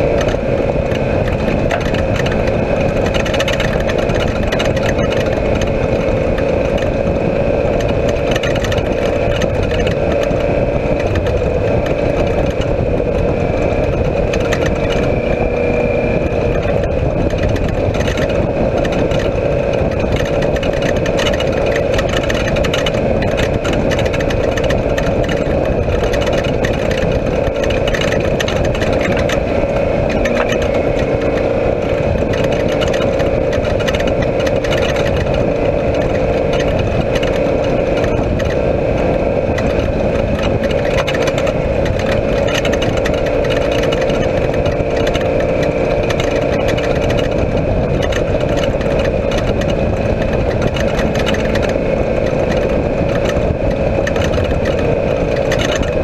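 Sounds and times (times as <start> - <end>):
loud engine drone: 0.0 - 56.0
road noise: 0.0 - 56.0
small clicks and rattles: 0.0 - 56.0.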